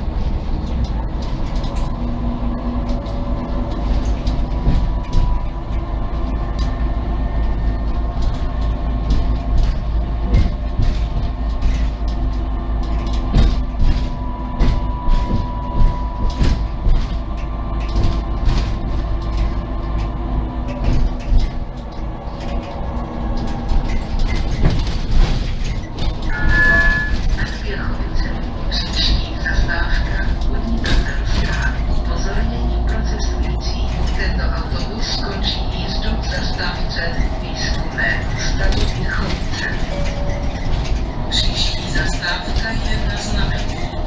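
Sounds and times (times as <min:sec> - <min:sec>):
body rattles and knocks: 0:00.0 - 0:44.0
bus engine and road noise: 0:00.0 - 0:44.0.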